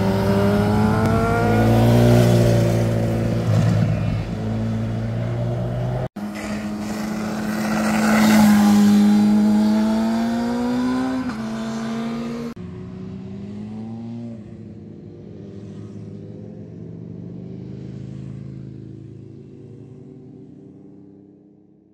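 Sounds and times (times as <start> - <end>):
engine accelerating uphill: 0.0 - 20.3
quieter engine: 0.0 - 21.9.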